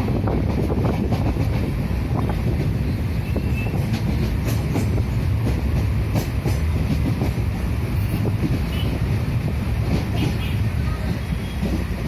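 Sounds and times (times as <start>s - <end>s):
train rumbling on rails: 0.0s - 12.0s
wheel clacks and rattles: 0.0s - 12.0s.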